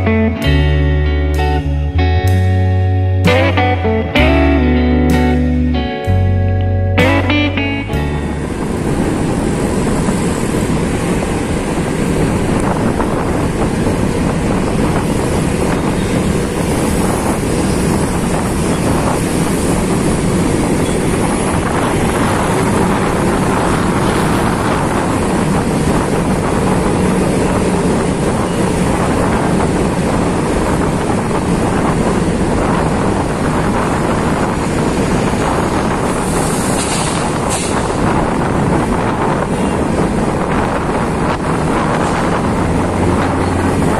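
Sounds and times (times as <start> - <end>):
scooter engine and road noise: 0.0 - 43.9
wind rushing over microphone: 0.0 - 43.9.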